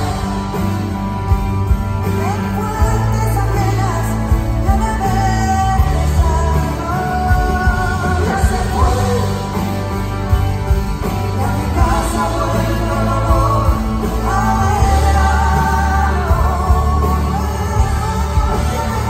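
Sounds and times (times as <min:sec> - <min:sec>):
bass and drums: 0:00.0 - 0:19.0
piano: 0:00.0 - 0:19.0
woman singing: 0:02.1 - 0:09.8, 0:11.2 - 0:19.0.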